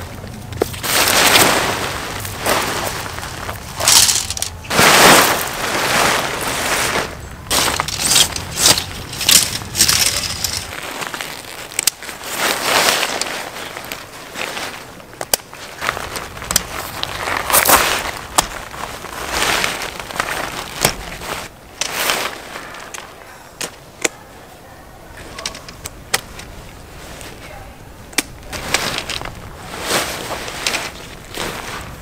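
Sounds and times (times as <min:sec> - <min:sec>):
tent fabric rustling: 0:00.0 - 0:24.0, 0:25.1 - 0:32.0
tent poles clicking and knocking: 0:00.0 - 0:24.2, 0:25.1 - 0:27.4, 0:28.0 - 0:32.0.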